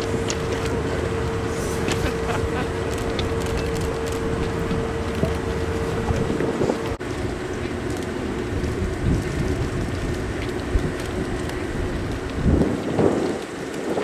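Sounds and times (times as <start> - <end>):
continuous rushing noise: 0.0 - 14.0
electric train equipment hum: 0.0 - 14.0.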